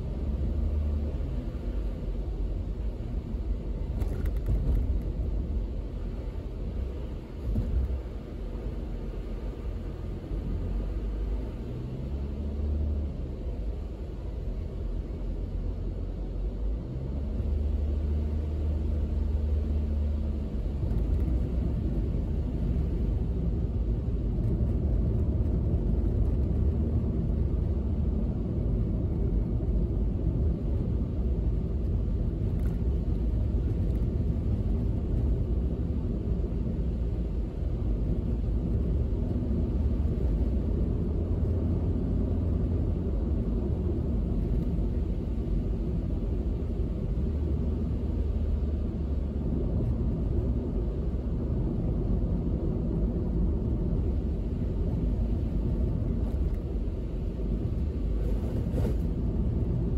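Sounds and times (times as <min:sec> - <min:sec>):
engine and road rumble: 0:00.0 - 0:59.9
tyres on wet road: 0:00.0 - 0:59.9.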